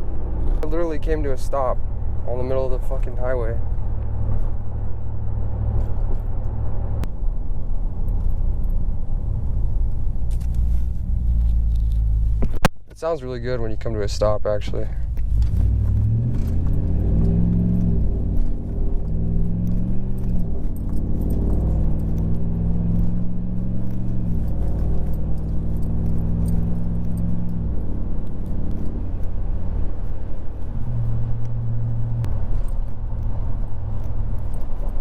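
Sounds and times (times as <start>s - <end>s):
truck engine accelerating: 0.0s - 12.7s, 14.0s - 35.0s.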